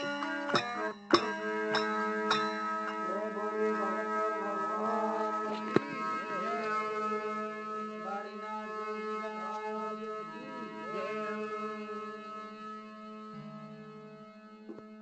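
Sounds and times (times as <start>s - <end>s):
devotional song with drone: 0.0s - 15.0s.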